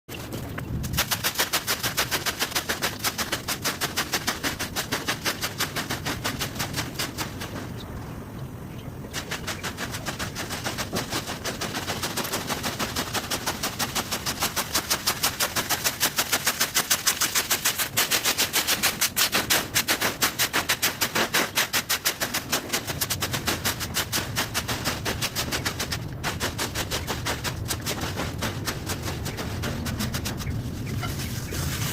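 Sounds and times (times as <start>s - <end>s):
broom sweeping dry leaves: 0.9s - 7.8s, 9.2s - 31.9s.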